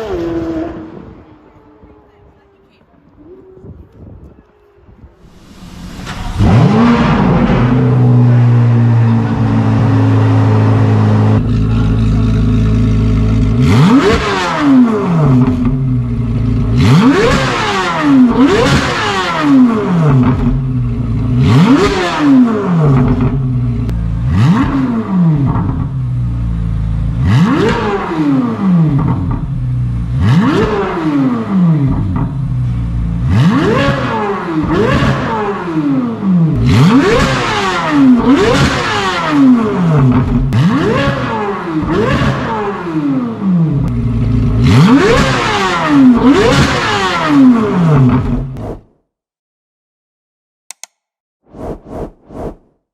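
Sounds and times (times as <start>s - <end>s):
car engine idling and revving: 5.2s - 48.8s.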